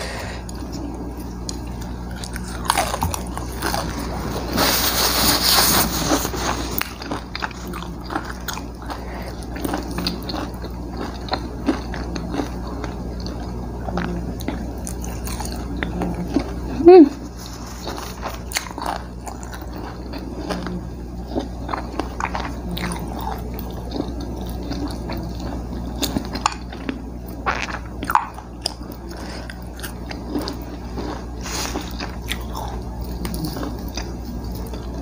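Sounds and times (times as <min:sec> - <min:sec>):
steady low hum: 0:00.0 - 0:35.0
person chewing and biting: 0:00.4 - 0:35.0.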